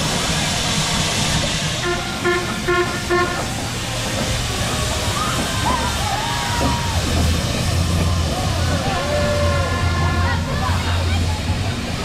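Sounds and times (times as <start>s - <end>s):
steam engine rumbling: 0.0s - 12.0s.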